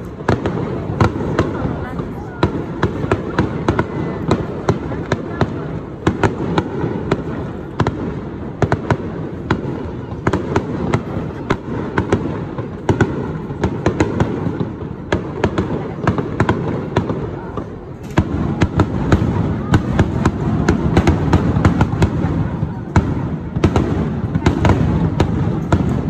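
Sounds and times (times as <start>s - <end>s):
fireworks bangs and pops: 0.0s - 26.0s.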